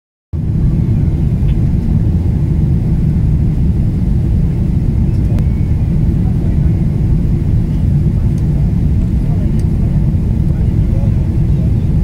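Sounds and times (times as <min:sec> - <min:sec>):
jet engines and airflow rumble: 0:00.4 - 0:12.0.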